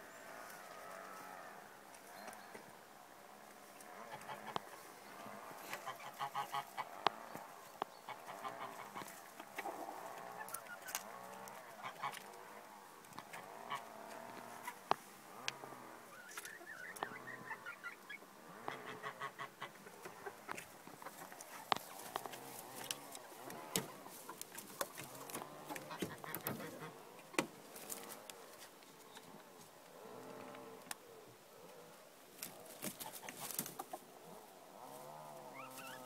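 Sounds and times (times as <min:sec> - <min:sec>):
chickens clucking: 0:01.9 - 0:36.0.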